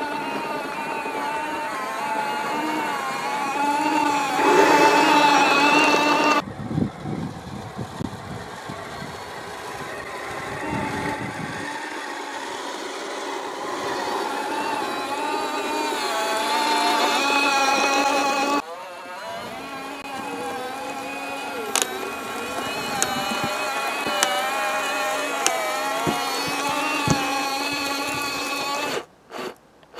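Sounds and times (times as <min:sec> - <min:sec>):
electric motors whining: 0:00.0 - 0:29.9.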